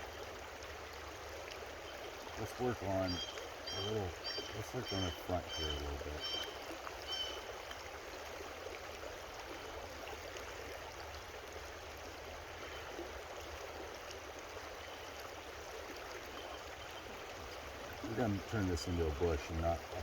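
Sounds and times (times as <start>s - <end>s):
creek running over rocks: 0.0s - 20.0s.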